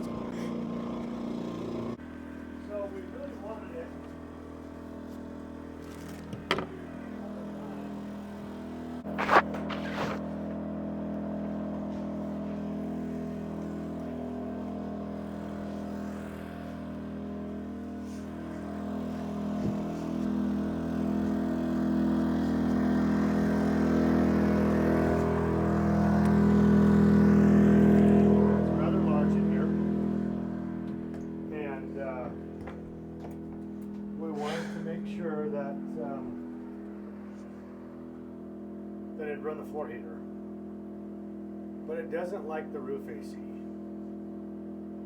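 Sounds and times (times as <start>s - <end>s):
generator engine humming: 0.0s - 45.0s.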